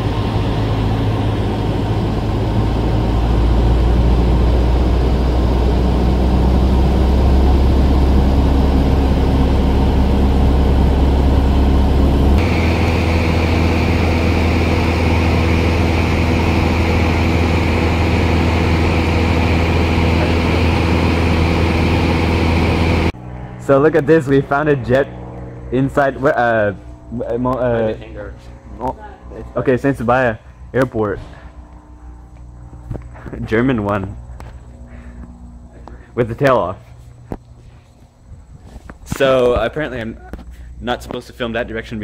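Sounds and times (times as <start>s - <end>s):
light aircraft engine droning: 0.0s - 42.0s.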